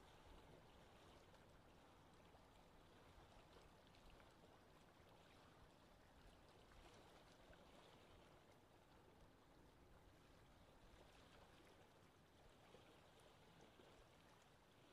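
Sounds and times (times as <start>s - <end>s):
soft water sounds: 0.0s - 14.9s.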